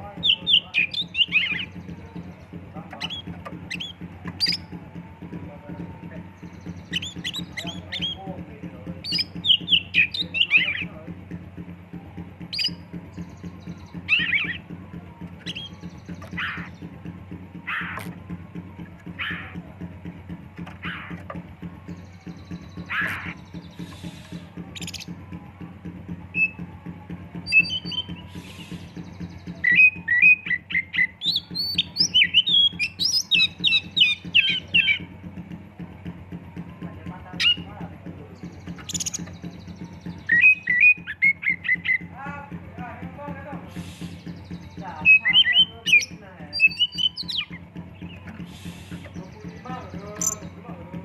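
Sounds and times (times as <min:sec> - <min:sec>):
harsh rasping bird notes: 0:00.0 - 0:05.5, 0:06.1 - 0:11.8, 0:12.4 - 0:25.2, 0:27.4 - 0:36.2, 0:38.4 - 0:50.6
bird singing chirping whistles: 0:00.0 - 0:35.5, 0:36.1 - 0:51.0.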